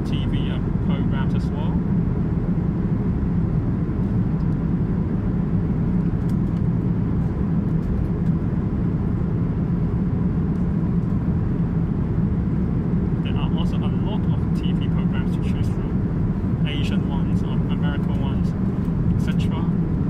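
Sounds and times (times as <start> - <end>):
aircraft cabin drone: 0.0 - 20.0.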